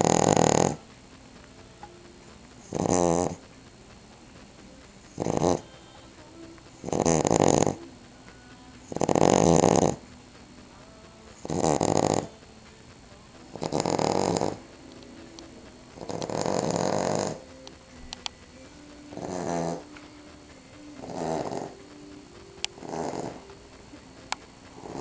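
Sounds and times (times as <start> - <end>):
dog snoring: 0.0 - 3.7, 4.3 - 25.0.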